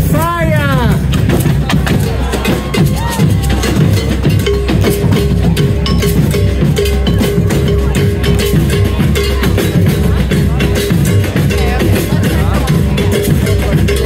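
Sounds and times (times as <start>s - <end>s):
drums in fast rhythm: 0.0s - 14.0s.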